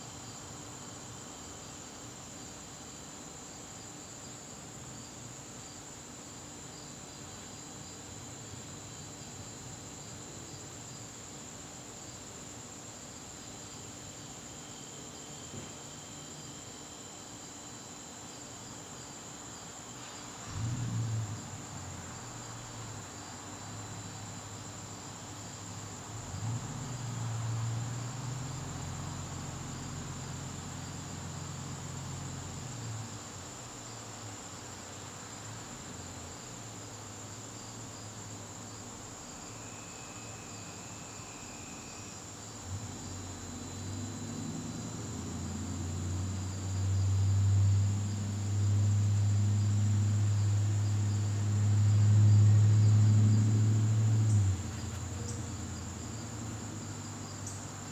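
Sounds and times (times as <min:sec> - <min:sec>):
crickets trilling: 0:00.0 - 0:57.9
pulsed cricket chirp: 0:00.0 - 0:57.9.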